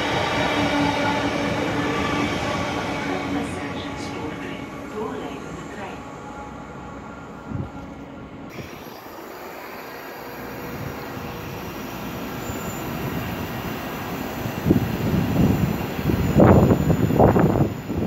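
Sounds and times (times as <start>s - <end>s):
train rail noise: 0.0s - 18.0s.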